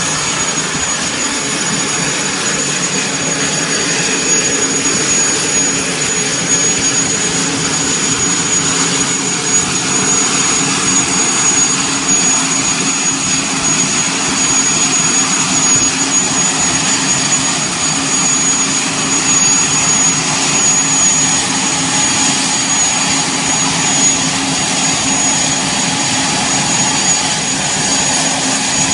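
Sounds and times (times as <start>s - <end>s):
helicopter engine running: 0.0s - 28.9s
high-pitched turbine whine: 0.0s - 28.9s.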